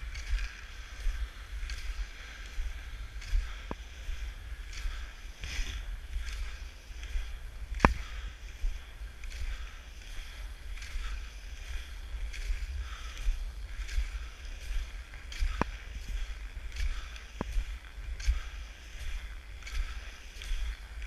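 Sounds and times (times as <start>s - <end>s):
skis swishing over snow: 0.0s - 21.0s
wind rumble on microphone: 0.0s - 21.0s.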